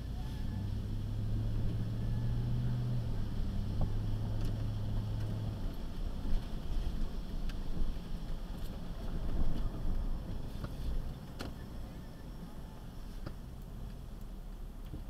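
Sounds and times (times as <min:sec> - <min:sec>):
road rumble: 0:00.0 - 0:15.0
vehicle engine hum: 0:00.0 - 0:15.0.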